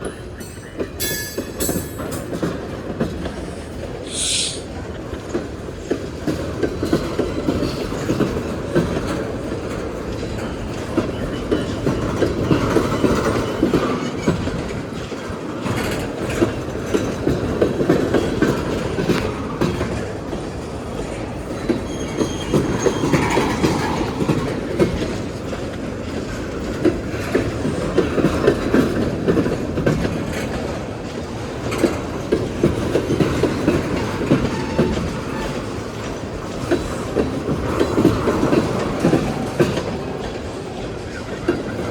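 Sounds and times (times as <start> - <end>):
wheels clacking over rail joints: 0.0 - 4.0, 4.8 - 41.9
steel wheels rumbling on rail: 0.0 - 41.9.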